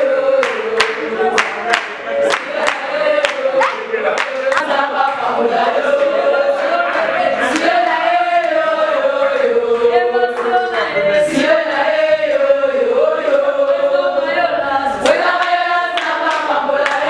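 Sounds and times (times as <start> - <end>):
women singing a chant in unison: 0.0 - 17.0.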